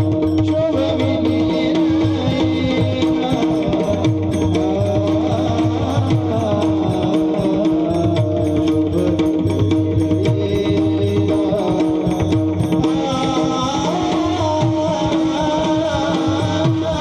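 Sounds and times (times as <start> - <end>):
mridang drumming: 0.0 - 17.0.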